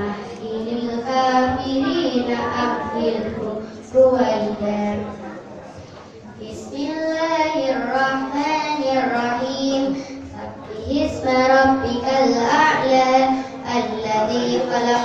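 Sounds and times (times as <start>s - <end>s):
child reciting melodically: 0.0s - 5.2s, 6.4s - 15.0s.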